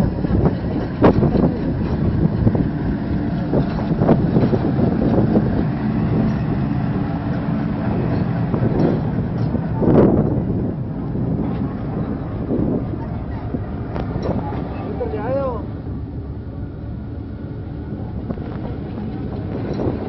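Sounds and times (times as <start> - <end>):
diesel locomotive engine drone: 0.0 - 20.0
train wheels clicking over rail joints: 0.0 - 20.0
wind buffeting microphone: 0.0 - 20.0.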